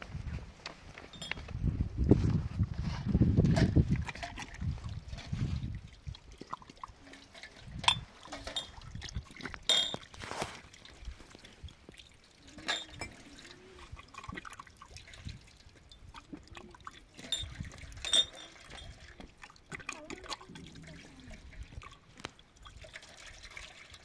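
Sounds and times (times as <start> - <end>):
water trickling and dripping: 3.4 - 24.0.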